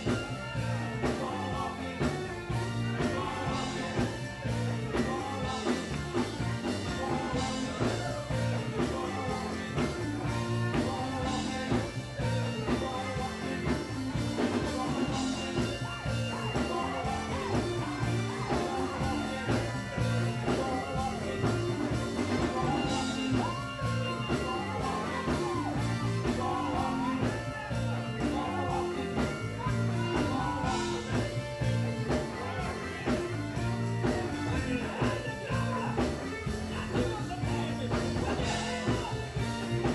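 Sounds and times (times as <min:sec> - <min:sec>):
gospel band playing: 0:00.0 - 0:39.9
people singing: 0:00.0 - 0:39.9.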